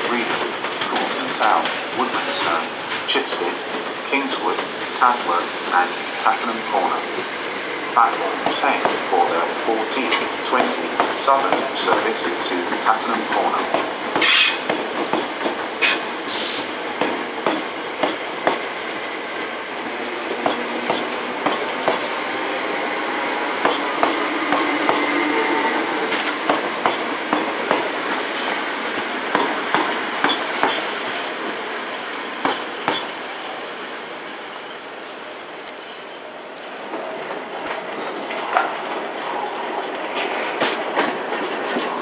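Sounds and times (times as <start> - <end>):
train wheels clicking over rail joints: 0.0 - 19.6, 20.2 - 22.6, 23.2 - 25.2, 25.9 - 31.6, 32.3 - 33.2, 36.9 - 42.0
train rumble: 0.0 - 42.0.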